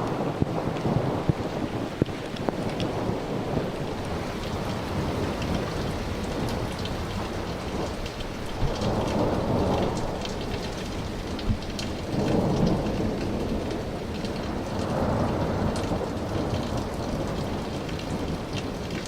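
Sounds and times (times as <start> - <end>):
steady rain: 0.0 - 19.0
thunder rumbling: 0.0 - 19.0.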